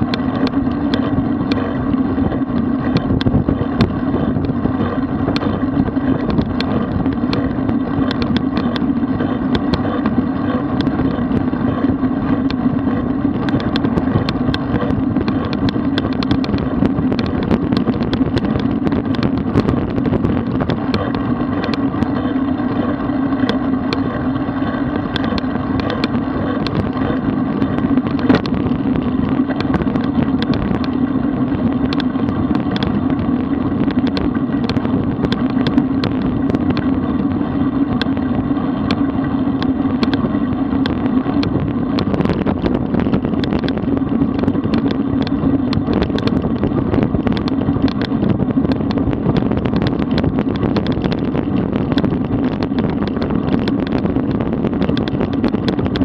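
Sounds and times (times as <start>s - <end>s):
road noise: 0.0s - 56.0s
small clicks and rattles: 0.0s - 56.0s
wind rush: 0.0s - 56.0s.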